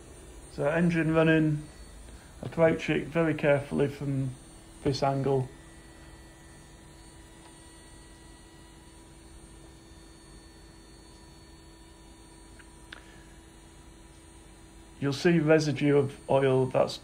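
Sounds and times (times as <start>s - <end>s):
jet engine idling hum: 0.0s - 17.0s.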